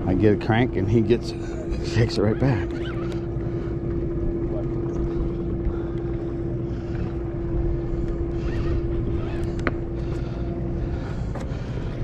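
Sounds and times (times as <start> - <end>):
boat machinery drone: 0.0 - 12.0
constant hum: 0.0 - 12.0.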